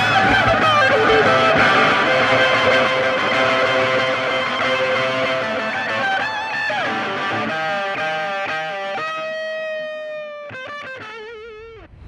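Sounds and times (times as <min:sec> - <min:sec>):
electric guitar background music: 0:00.0 - 0:11.9.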